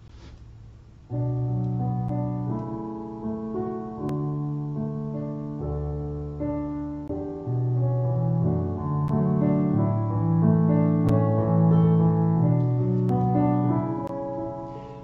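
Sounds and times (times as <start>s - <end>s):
slow piano music: 0.9s - 15.0s.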